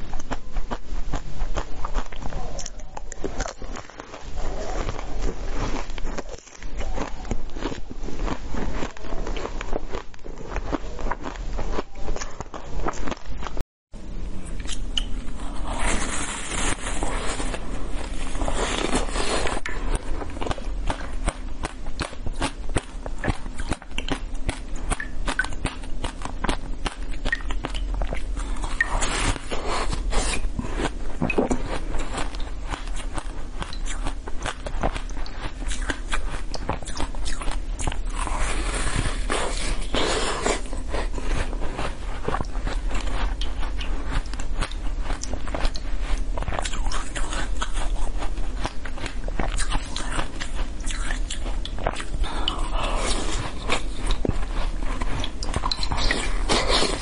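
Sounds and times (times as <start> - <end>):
biting and chewing pastry: 0.0 - 13.6, 14.4 - 57.0.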